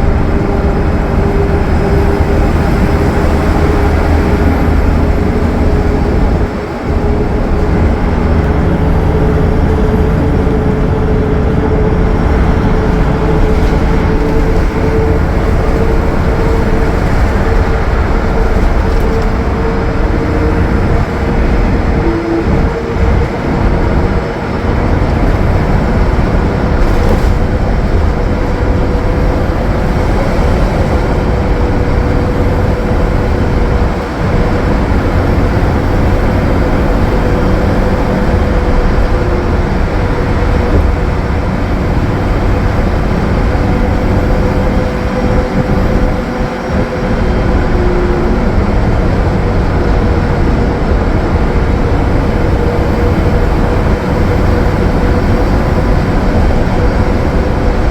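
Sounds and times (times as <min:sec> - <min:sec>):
bus road and drivetrain rumble: 0:00.0 - 0:57.9
steady engine whine: 0:00.0 - 0:57.9.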